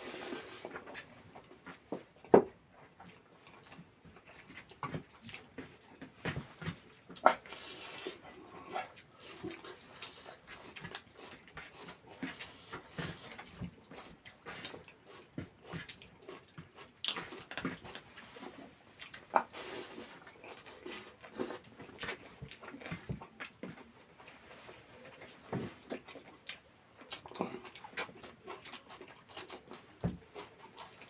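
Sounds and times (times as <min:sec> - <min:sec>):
person chewing with wet smacks: 0:00.0 - 0:31.0.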